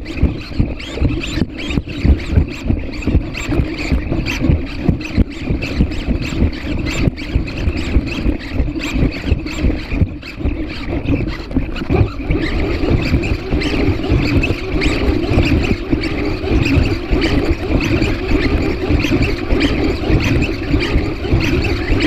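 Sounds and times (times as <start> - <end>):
robot feet ticking and knocking: 0.0 - 22.0.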